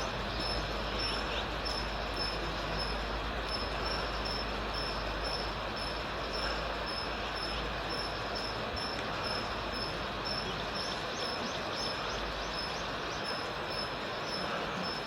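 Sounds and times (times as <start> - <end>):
insect chirping: 0.0 - 15.0
steady rushing noise: 0.0 - 15.0.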